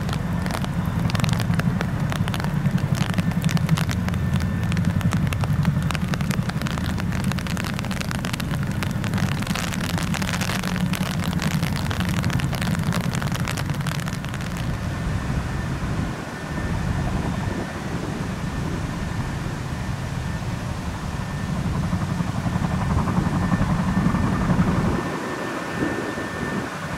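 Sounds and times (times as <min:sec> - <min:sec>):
helicopter rotor chop: 0:00.0 - 0:26.9
turbine engine whine: 0:00.0 - 0:26.9.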